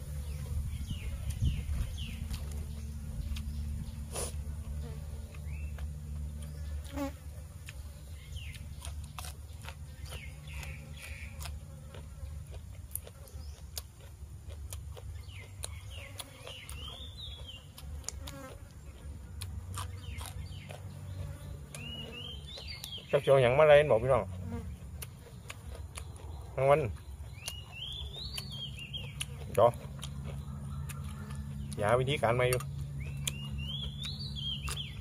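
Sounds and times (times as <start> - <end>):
low buzzing hum: 0.0 - 35.0
person chewing raw vegetables: 0.0 - 35.0.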